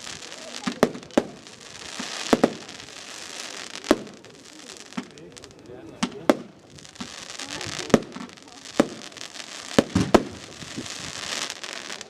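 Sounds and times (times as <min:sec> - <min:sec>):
crackling firework stars: 0:00.0 - 0:12.0
firework shells bursting: 0:00.0 - 0:12.0.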